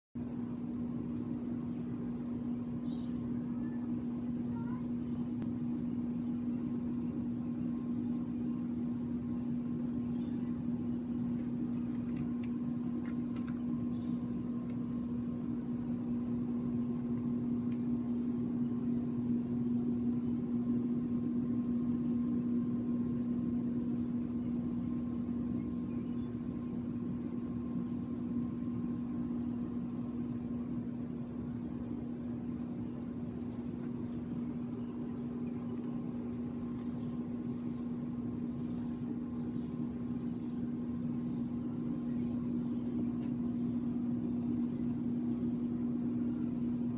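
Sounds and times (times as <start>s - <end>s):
mechanical hum low drone: 0.2s - 46.9s.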